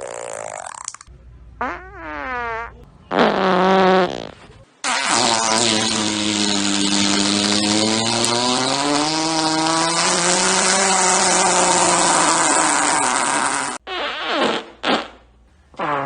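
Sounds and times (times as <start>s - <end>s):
buzzy fart sounds: 0.0s - 16.0s.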